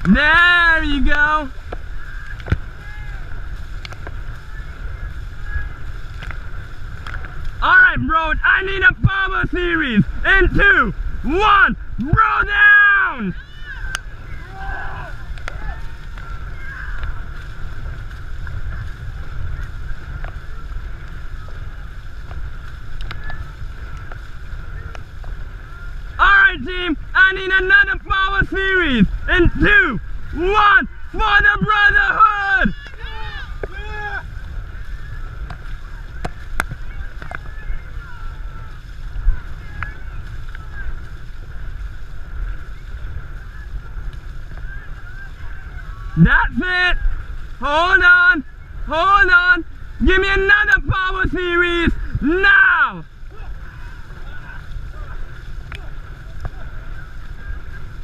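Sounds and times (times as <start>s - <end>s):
faint distant shouts: 0.0s - 58.0s
wind buffeting microphone: 0.0s - 58.0s.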